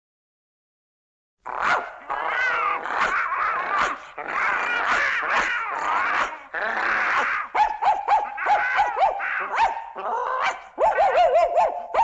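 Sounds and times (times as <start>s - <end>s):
cartoon dog barking and yipping: 1.5s - 12.0s.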